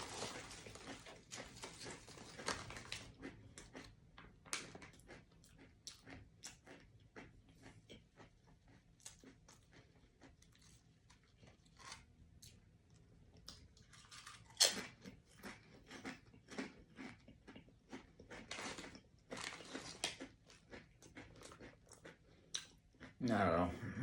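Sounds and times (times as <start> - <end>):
person chewing potato chips: 0.0 - 23.2.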